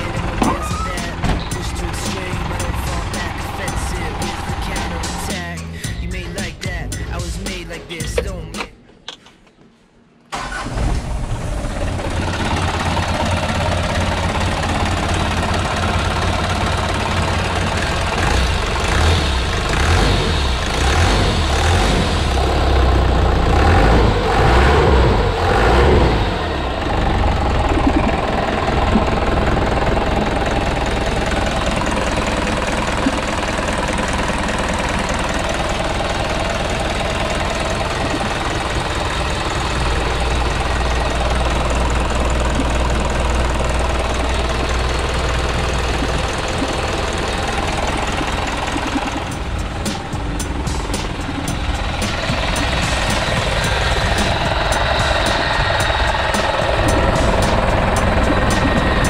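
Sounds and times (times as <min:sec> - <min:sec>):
diesel engine idling: 0:00.0 - 0:08.9, 0:10.3 - 0:59.0.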